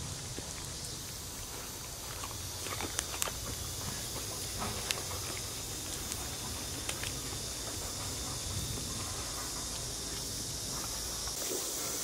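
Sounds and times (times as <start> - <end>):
low outdoor hiss: 0.0 - 12.0.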